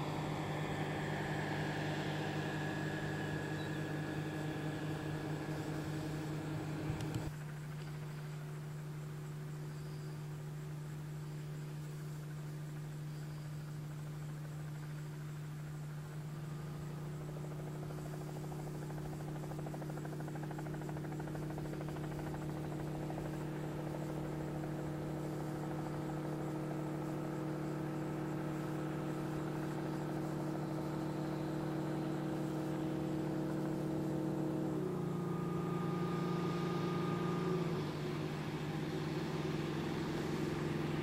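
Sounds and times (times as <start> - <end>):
propeller plane engine droning: 0.0 - 41.0.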